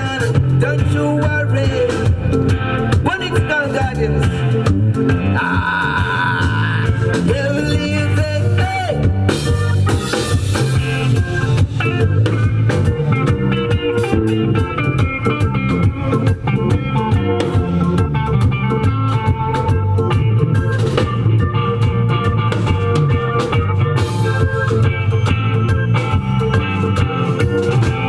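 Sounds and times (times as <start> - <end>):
drum kit: 0.0 - 28.0
guitar: 0.0 - 28.0
live reggae band: 0.0 - 28.0.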